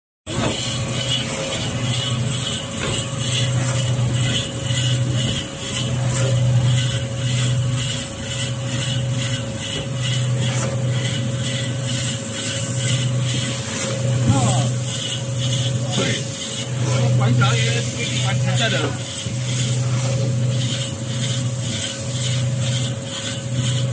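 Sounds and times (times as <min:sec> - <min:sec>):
cutting machine motor hum: 0:00.3 - 0:23.9.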